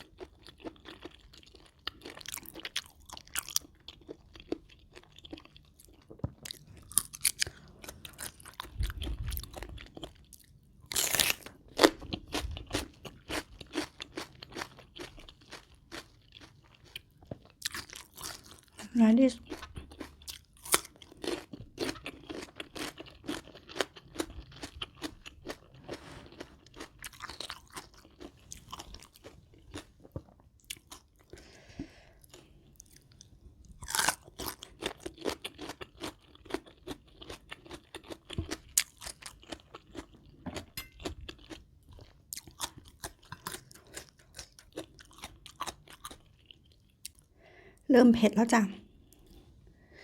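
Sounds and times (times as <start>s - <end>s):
crunchy chewing: 0.0s - 18.8s, 19.4s - 31.4s, 32.2s - 47.3s.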